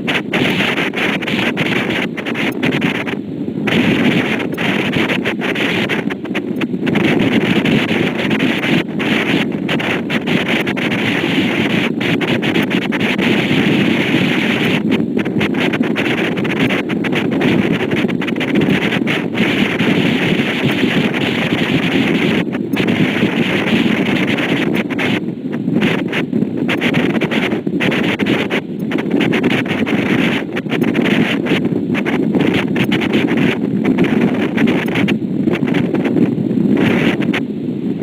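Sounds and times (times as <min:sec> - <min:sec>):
boat running and wake: 0:00.0 - 0:38.0
wind buffeting microphone: 0:00.0 - 0:38.0.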